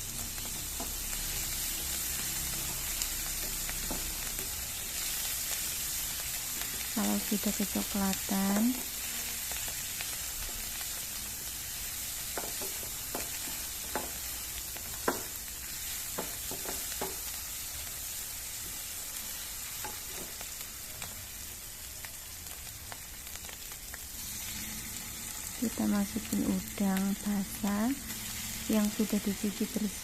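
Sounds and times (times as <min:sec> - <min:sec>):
spice paste sizzling in oil: 0:00.0 - 0:30.0.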